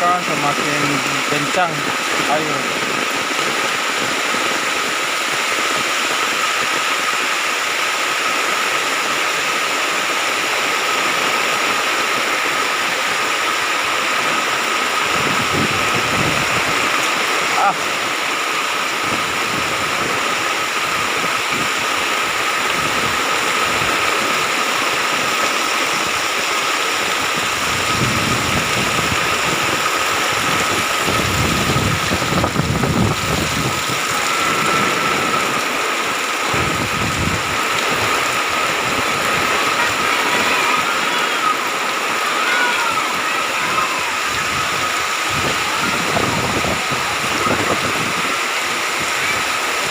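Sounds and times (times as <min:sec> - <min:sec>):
floodwater running: 0:00.0 - 0:49.9
heavy rain pouring: 0:00.0 - 0:49.9.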